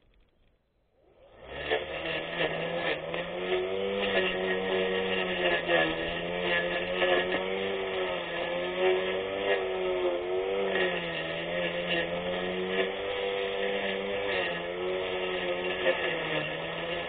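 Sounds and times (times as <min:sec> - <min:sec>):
electric grass cutter humming: 0:01.0 - 0:17.0.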